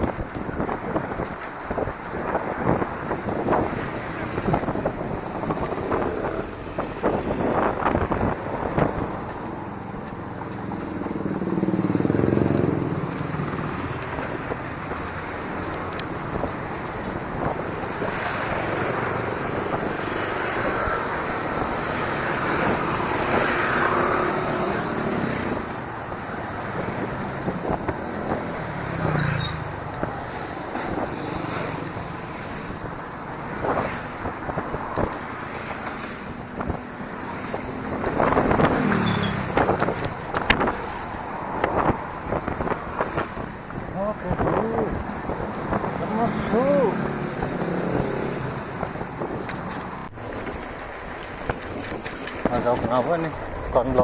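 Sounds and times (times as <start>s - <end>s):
bicycle tyre rumble: 0.0s - 54.0s
bike rattling: 0.0s - 54.0s
wind buffeting microphone: 0.0s - 54.0s.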